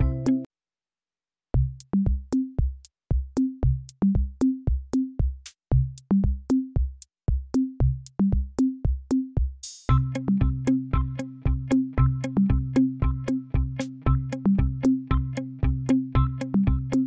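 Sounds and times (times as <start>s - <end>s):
electronic drum machine beat: 1.6s - 17.0s.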